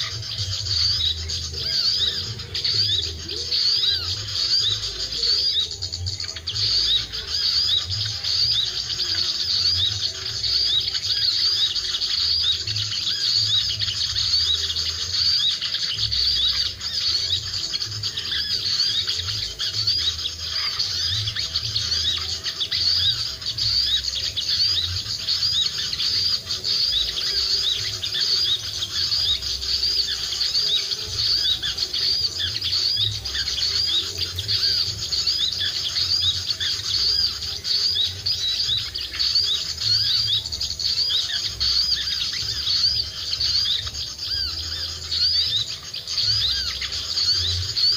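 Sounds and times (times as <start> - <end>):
bird call through speaker: 0.0 - 47.9.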